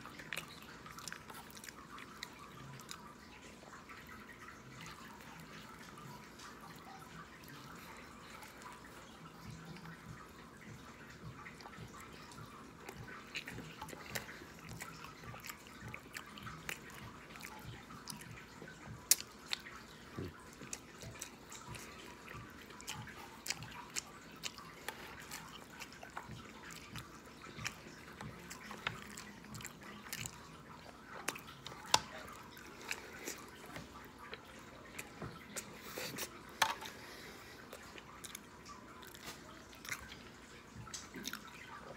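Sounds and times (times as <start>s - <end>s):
man chewing with wet smacking: 0.0s - 41.9s.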